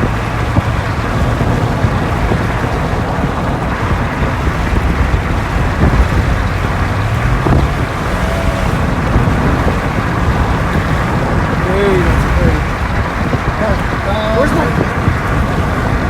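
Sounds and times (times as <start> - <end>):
road and engine rumble: 0.0 - 16.0
wind buffeting microphone: 0.0 - 16.0.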